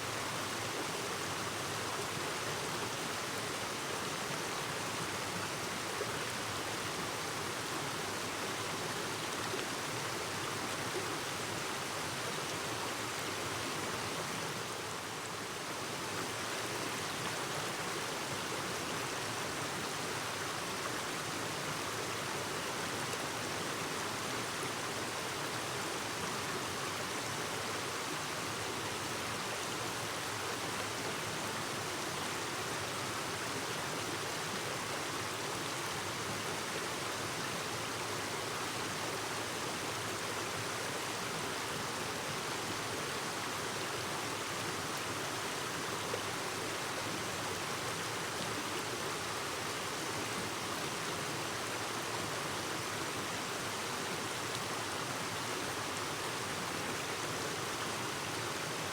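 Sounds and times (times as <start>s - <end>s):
stream babbling over rocks: 0.2s - 58.9s.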